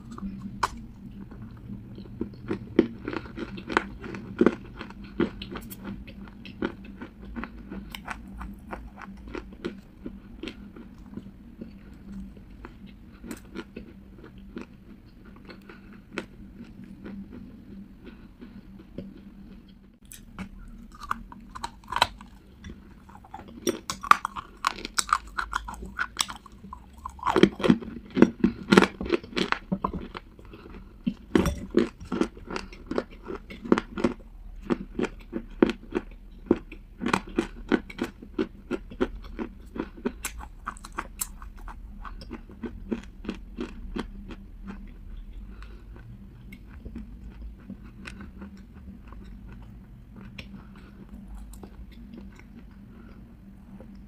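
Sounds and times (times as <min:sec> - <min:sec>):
crunchy chewing of dry clay: 0:00.0 - 0:54.0.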